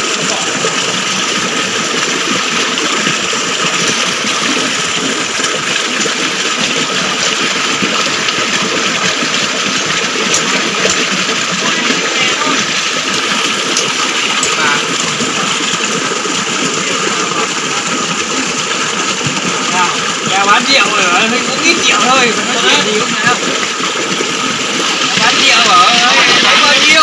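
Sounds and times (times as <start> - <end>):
stream water rushing over rocks: 0.0 - 27.0.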